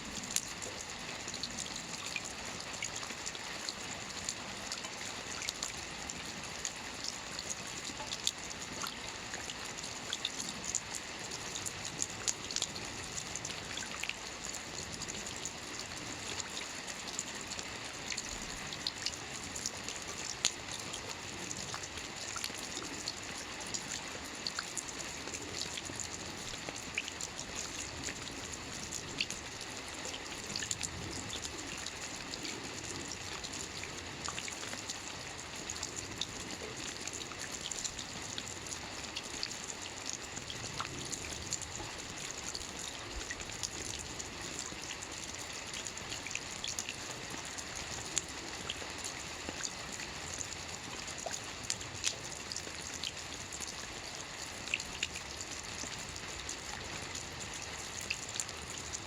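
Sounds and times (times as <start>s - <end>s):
raindrops ticking close by: 0.0s - 59.0s
steady rain hiss: 0.0s - 59.0s.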